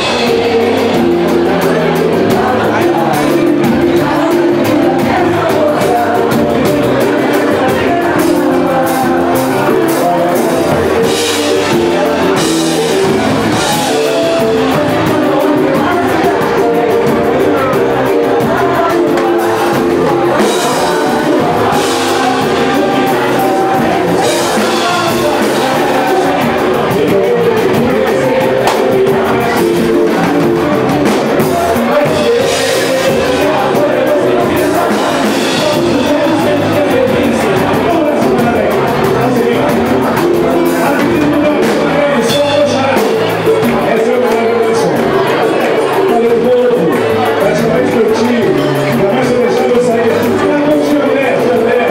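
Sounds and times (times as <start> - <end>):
person singing: 0.0 - 51.9
samba band playing: 0.0 - 51.9.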